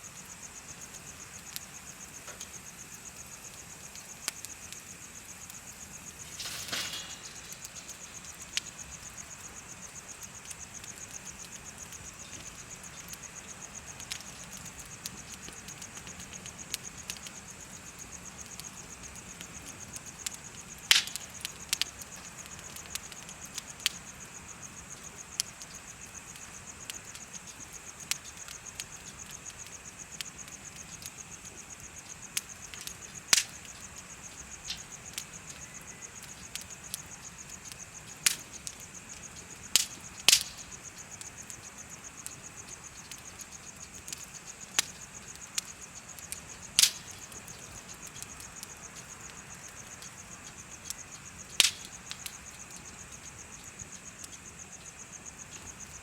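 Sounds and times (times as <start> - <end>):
insects chirping: 0.0 - 56.0
wood fire crackling: 0.0 - 56.0.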